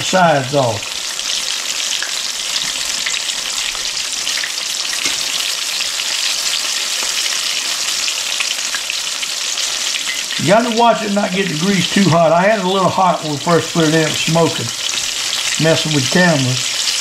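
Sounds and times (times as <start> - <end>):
fish frying in grease: 0.0 - 17.0.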